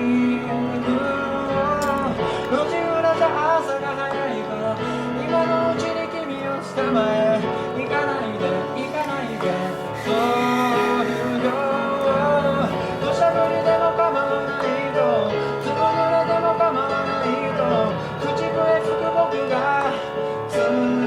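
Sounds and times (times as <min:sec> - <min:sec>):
acoustic guitar: 0:00.0 - 0:21.0
man singing a slow ballad: 0:00.0 - 0:21.0.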